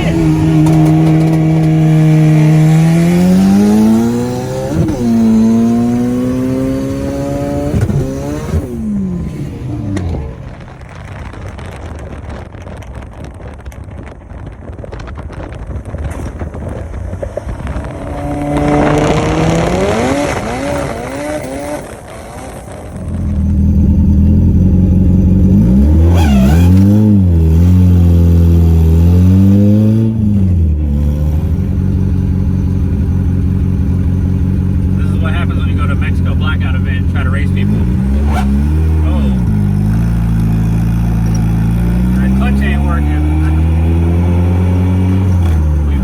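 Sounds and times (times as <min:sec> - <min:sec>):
car engine at full throttle: 0:00.0 - 0:46.0.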